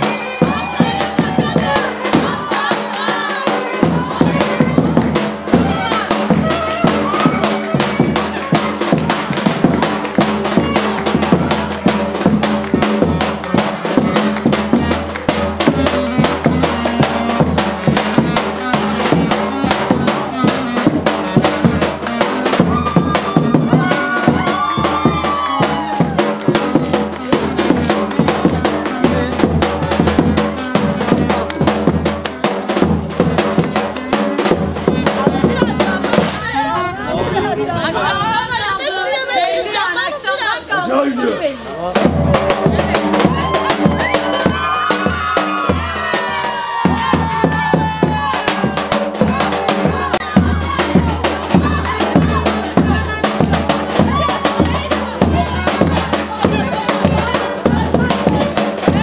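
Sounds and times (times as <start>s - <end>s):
fast drum beat: 0.0s - 38.7s, 41.8s - 59.0s.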